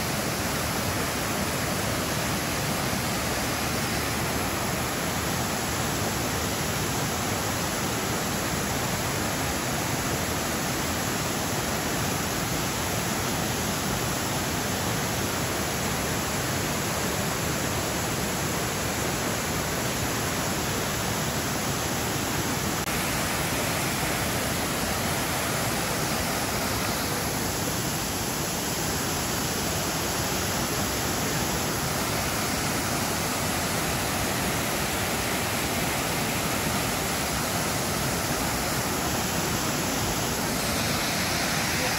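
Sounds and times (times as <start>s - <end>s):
waterfall rushing and splashing: 0.0s - 41.9s.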